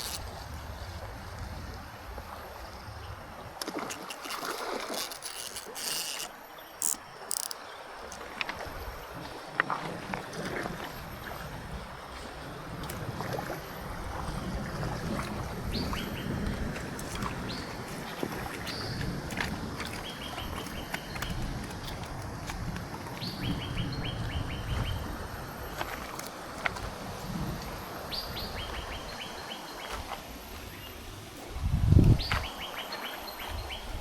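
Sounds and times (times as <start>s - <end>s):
river water moving: 0.0s - 31.6s.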